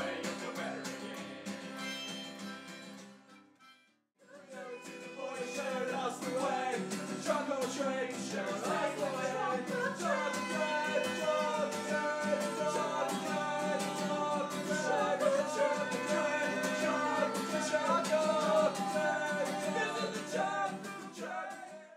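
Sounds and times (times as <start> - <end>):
person singing: 0.0 - 1.2, 4.2 - 21.9
strummed guitar: 0.0 - 3.7, 4.4 - 21.7.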